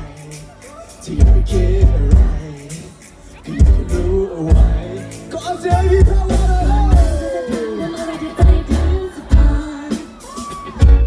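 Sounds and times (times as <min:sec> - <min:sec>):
live pop band playing: 0:00.0 - 0:11.0
person singing: 0:00.0 - 0:11.0.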